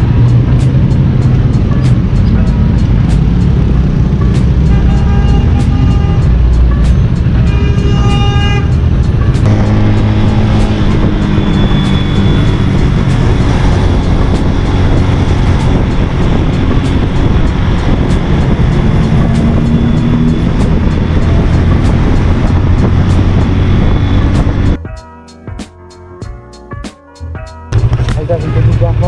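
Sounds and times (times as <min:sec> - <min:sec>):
motorcycle engine rumble: 0:00.0 - 0:24.8, 0:27.8 - 0:29.0
wind noise: 0:00.0 - 0:24.9
background music with beat: 0:00.0 - 0:29.0.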